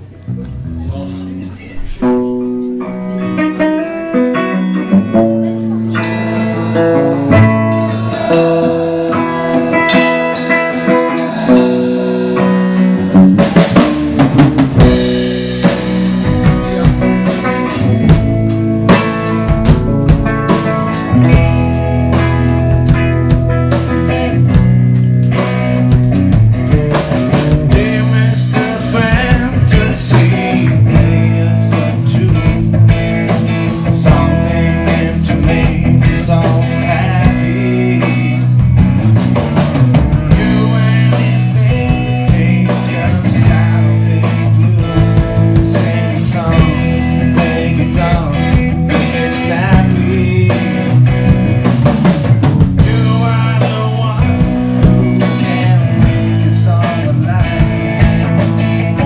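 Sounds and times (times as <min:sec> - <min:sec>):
live rock band playing: 0:00.0 - 0:59.0
man singing: 0:00.9 - 0:13.9, 0:14.8 - 0:19.8, 0:27.3 - 0:38.8, 0:39.9 - 0:51.7, 0:52.8 - 0:59.0.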